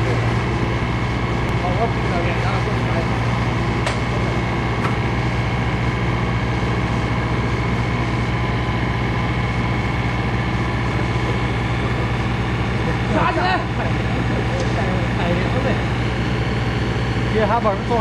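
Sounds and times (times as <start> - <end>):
excavator diesel engine idling: 0.0 - 18.0.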